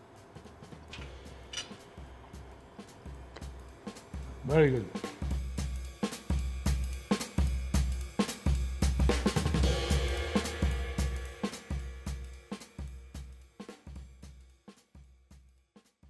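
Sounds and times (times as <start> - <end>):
drum beat with bass: 0.0 - 16.0.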